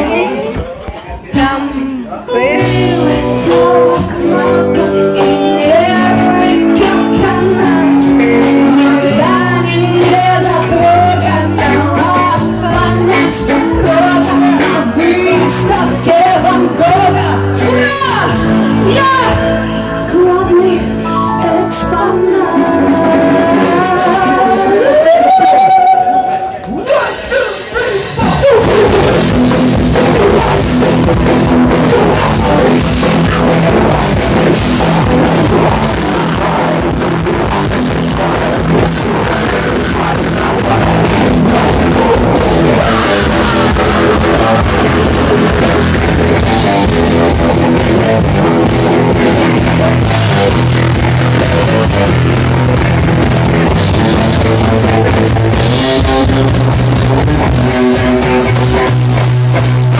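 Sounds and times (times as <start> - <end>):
drum kit: 0.0 - 21.1, 22.7 - 59.9
bass guitar: 0.0 - 59.9
electric guitar: 0.0 - 59.9
keyboard: 0.0 - 59.9.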